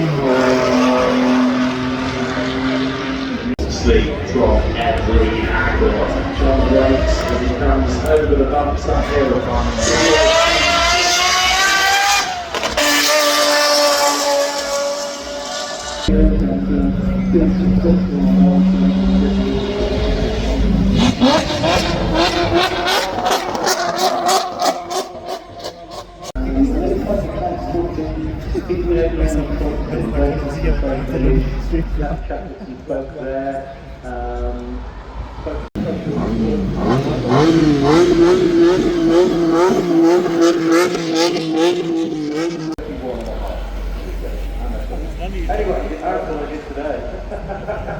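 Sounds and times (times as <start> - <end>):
race car engine accelerating: 0.0 - 32.0, 35.7 - 47.9.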